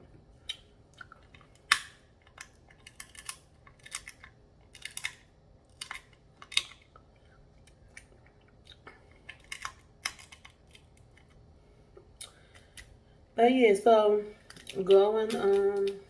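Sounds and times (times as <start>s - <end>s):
seafood eating cracks and clicks: 0.4s - 13.0s, 14.4s - 16.0s.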